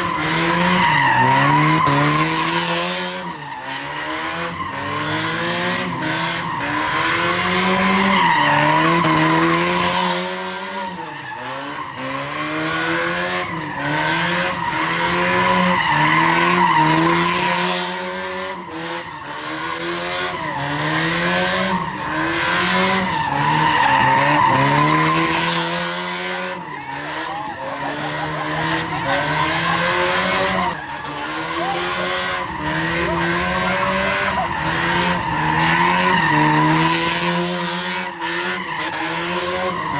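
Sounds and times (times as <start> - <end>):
car engine revving: 0.0 - 39.9
tires squealing: 0.0 - 39.9.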